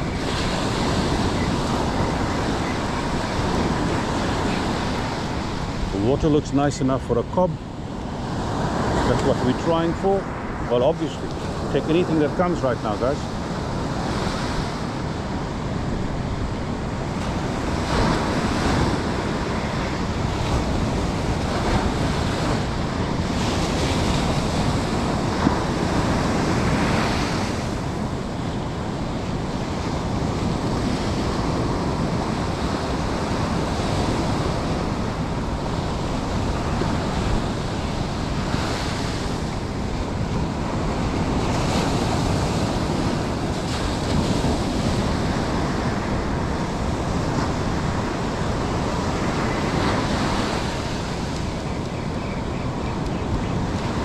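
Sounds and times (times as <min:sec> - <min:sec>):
ocean surf breaking on beach: 0:00.0 - 0:54.0
wind buffeting microphone: 0:00.0 - 0:54.0.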